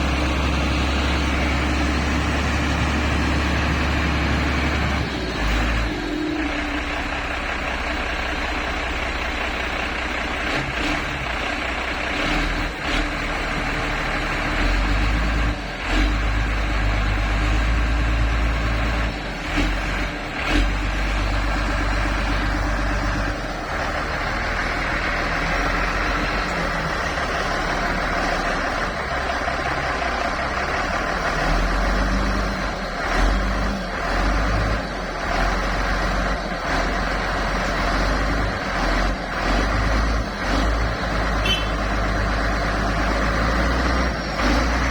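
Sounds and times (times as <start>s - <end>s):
diesel engine straining: 0.0s - 44.9s.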